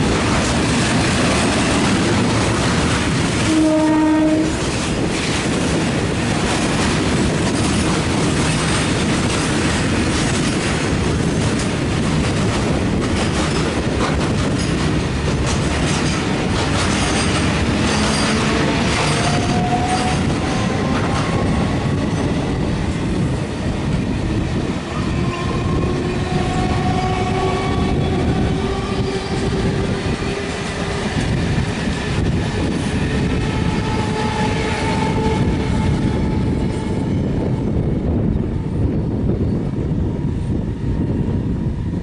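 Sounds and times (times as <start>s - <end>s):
clickety-clack over rail joints: 0.0s - 38.3s
train wheels on rails: 0.0s - 42.0s.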